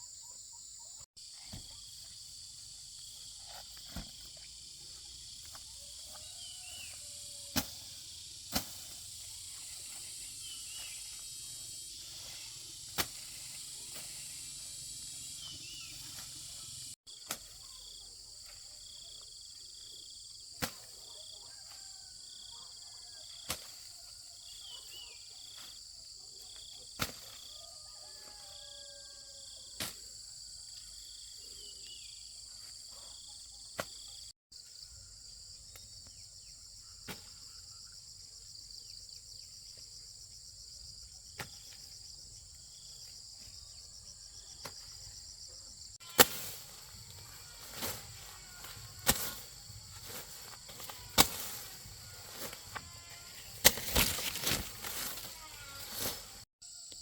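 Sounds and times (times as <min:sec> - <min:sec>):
insects chorus buzzing: 0:00.0 - 0:18.1, 0:18.7 - 0:32.5, 0:33.2 - 0:57.0.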